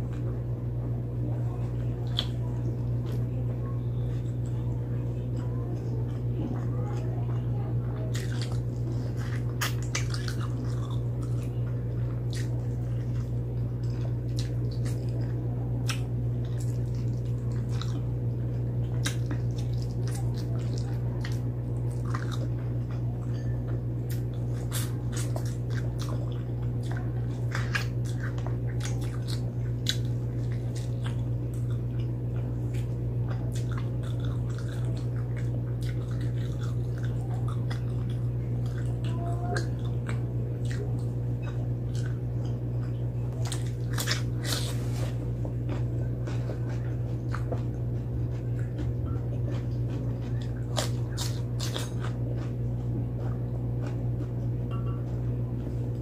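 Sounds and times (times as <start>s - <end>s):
steady low hum: 0.0s - 56.0s
chewing and mouth smacks: 1.9s - 56.0s.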